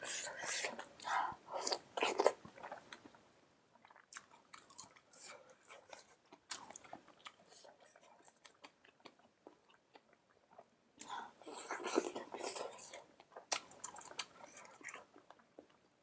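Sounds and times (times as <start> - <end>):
close chewing with mouth clicks: 0.0 - 16.0.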